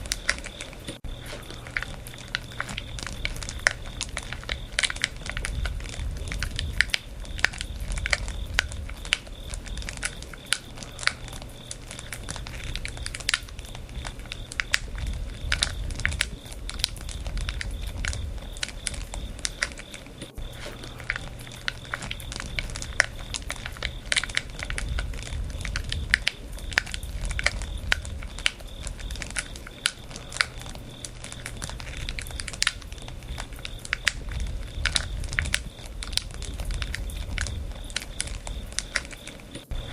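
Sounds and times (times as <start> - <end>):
campfire crackling: 0.0 - 39.9
low rumble of flames: 0.0 - 39.9.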